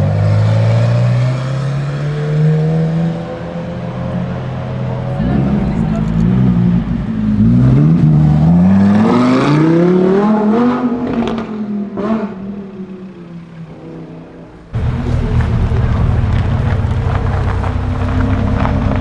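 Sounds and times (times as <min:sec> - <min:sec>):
sports car accelerating past: 0:00.0 - 0:19.0.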